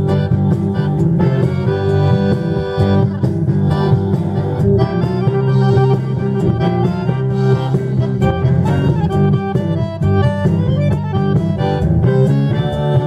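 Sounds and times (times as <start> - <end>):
accordion: 0.0 - 13.0
drums: 0.0 - 13.0
electric guitars: 0.0 - 13.0.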